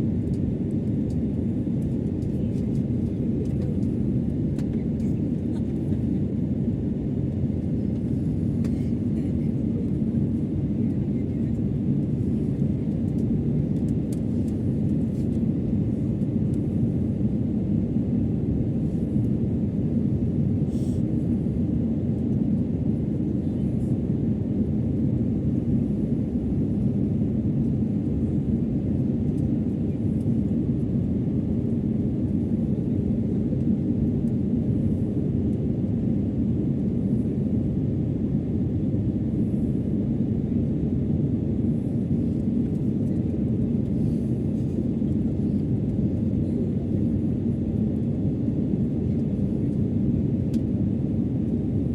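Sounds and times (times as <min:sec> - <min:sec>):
airliner cabin drone: 0:00.0 - 0:51.9.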